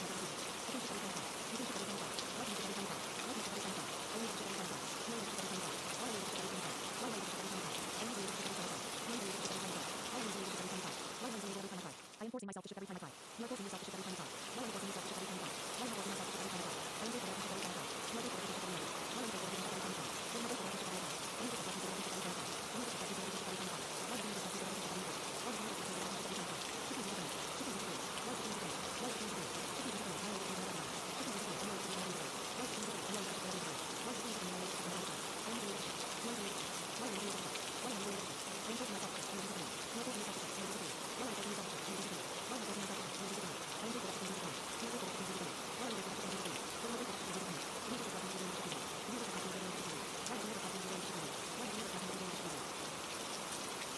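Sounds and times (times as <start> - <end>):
faint low voice murmuring: 0.0 - 12.4, 13.3 - 52.7
steady rain: 0.0 - 53.9.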